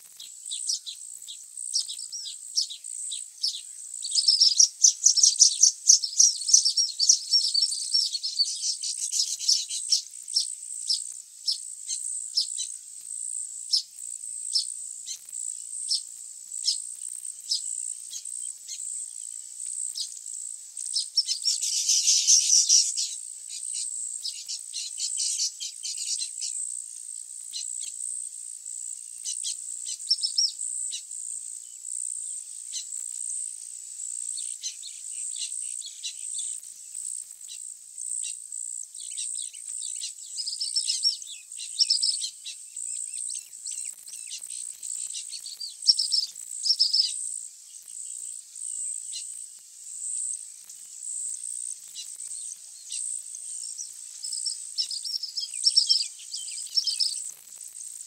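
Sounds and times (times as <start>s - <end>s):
birds chattering chirps: 0.0s - 28.2s, 28.8s - 58.0s.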